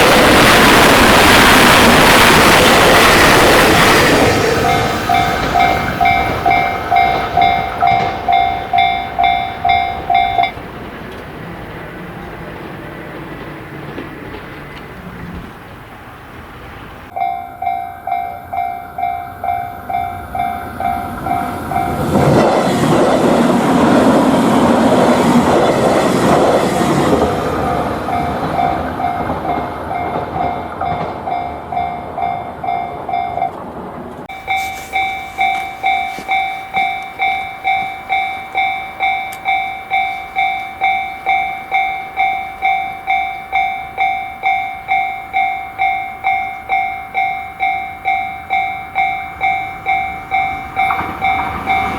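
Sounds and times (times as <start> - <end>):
railroad crossing bell ringing: 0.0 - 15.0, 17.1 - 51.9
train running past: 0.0 - 51.9.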